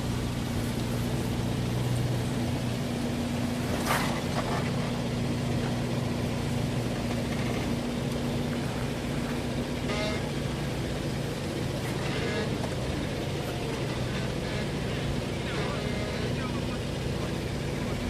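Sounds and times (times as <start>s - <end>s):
vehicle engine running at low revs: 0.0s - 18.0s.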